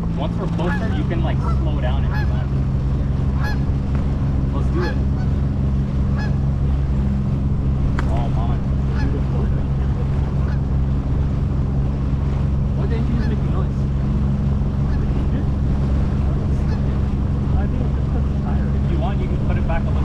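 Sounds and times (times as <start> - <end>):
boat motor running: 0.0 - 20.0
birds calling: 0.2 - 20.0.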